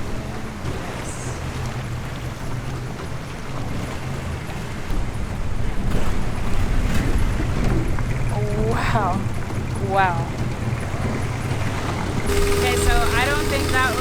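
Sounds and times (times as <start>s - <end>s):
boat engine droning: 0.0s - 14.0s
wind and water rushing: 0.0s - 14.0s.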